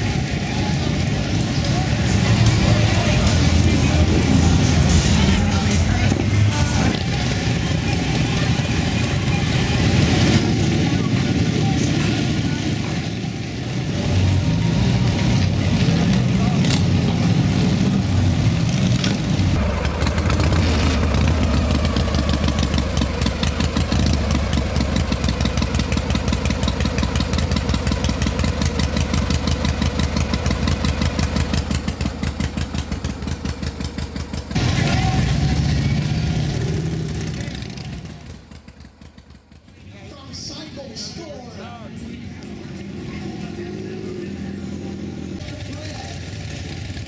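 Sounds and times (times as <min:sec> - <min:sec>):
motorcycle engine idling: 0:00.0 - 0:47.0.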